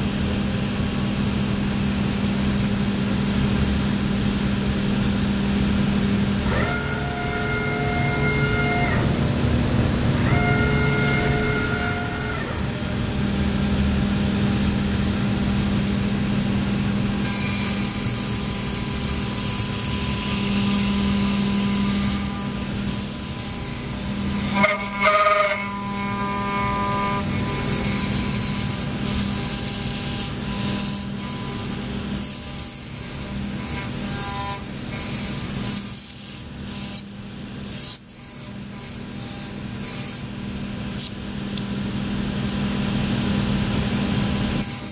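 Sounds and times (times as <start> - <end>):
milling machine spindle hum: 0.0 - 44.9.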